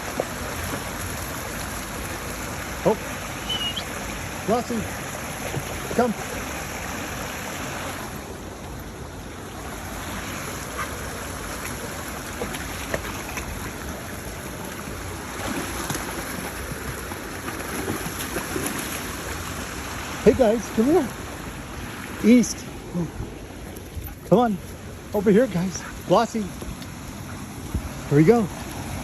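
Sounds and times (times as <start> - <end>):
stream water rushing: 0.0 - 29.0.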